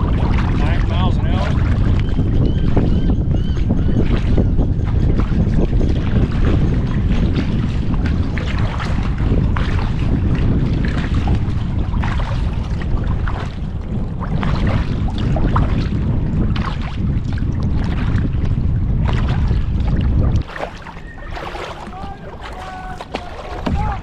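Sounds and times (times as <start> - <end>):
paddle strokes splashing water: 0.0 - 24.0
wind buffeting microphone: 0.0 - 24.0.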